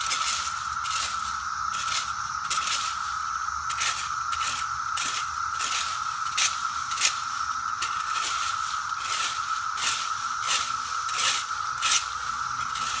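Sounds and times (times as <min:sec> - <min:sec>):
cicadas buzzing chorus: 0:00.0 - 0:13.0
rake scraping through dead cicadas: 0:00.0 - 0:13.0.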